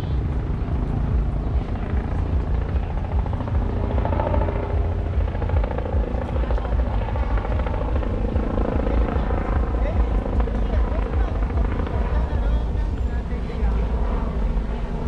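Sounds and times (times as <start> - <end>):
low rumbling street noise: 0.0 - 15.0.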